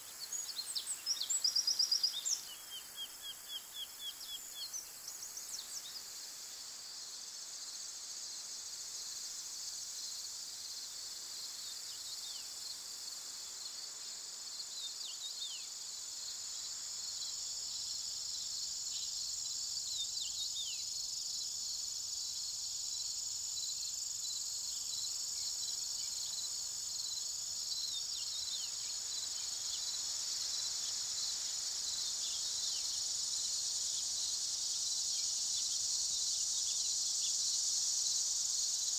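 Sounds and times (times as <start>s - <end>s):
chorus of field insects: 0.0s - 38.9s.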